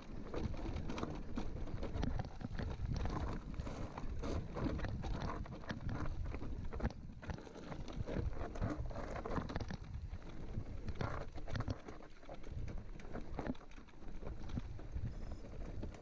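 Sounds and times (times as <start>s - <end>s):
bike rattling over bumps: 0.0s - 16.0s.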